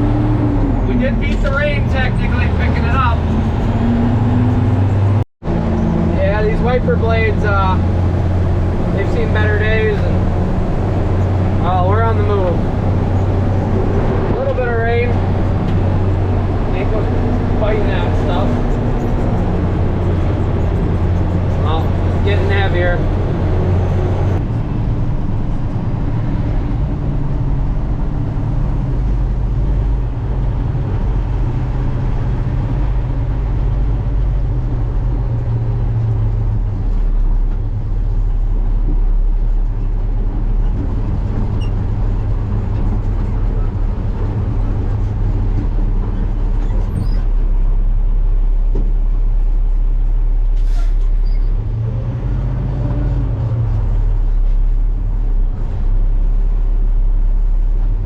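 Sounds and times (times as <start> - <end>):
truck engine under load: 0.0 - 58.0.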